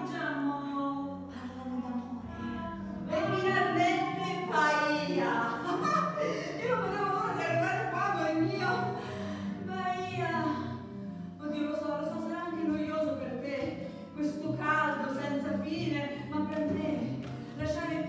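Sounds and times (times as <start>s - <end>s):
woman singing: 0.0s - 10.8s, 11.4s - 18.0s
classical guitar: 0.0s - 18.0s.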